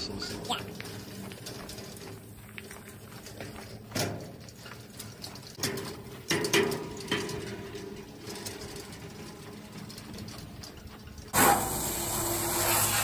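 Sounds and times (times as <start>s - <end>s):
metal trough rattling and knocking: 0.0s - 11.4s.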